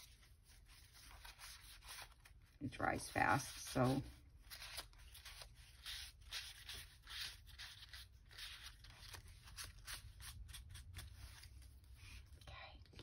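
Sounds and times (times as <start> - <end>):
paper rustling and scraping: 0.0 - 12.3.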